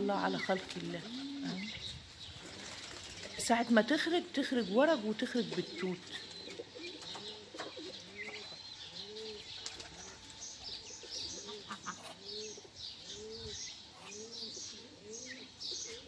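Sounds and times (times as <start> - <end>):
pigeons cooing: 0.0 - 3.5, 5.2 - 16.0
small birds chirping: 0.0 - 16.0.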